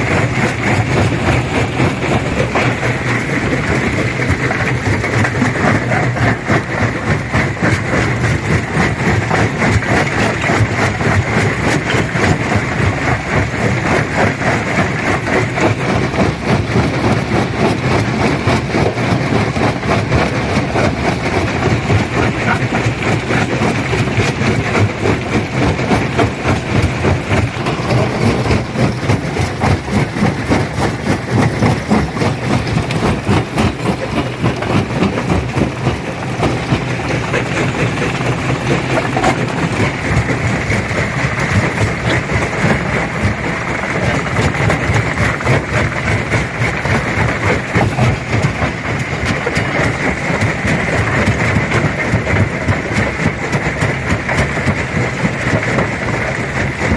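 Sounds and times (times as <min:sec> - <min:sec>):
heavy machine drone: 0:00.0 - 0:56.9.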